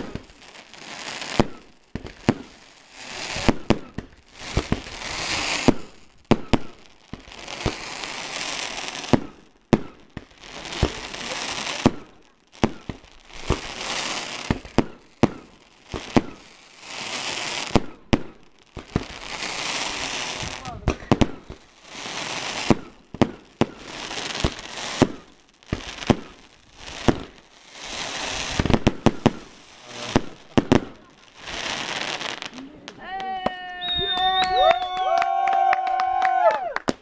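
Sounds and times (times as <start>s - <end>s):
firework bangs and crackles: 0.0s - 37.0s.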